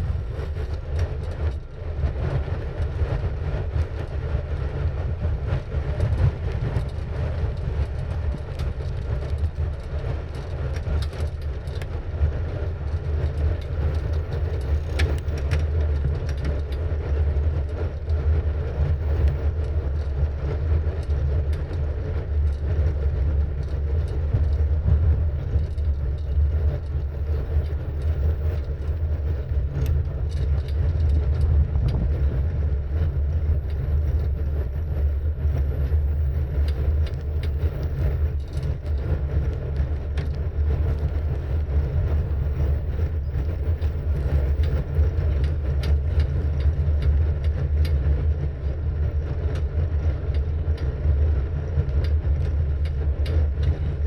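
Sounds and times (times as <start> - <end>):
wind rumble on microphone: 0.0 - 54.0
faint clicks and ticks: 5.5 - 54.0
tyre and road noise: 5.8 - 54.0.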